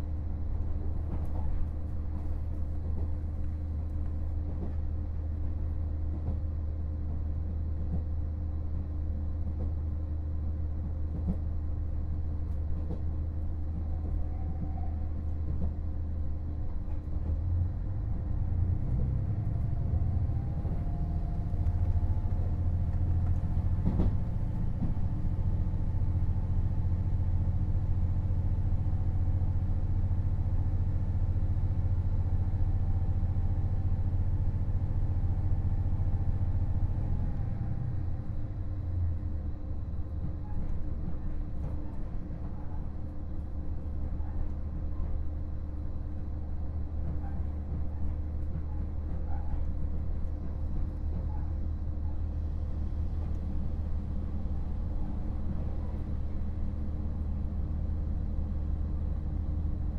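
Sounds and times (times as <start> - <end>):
diesel railcar engine drone: 0.0 - 59.9.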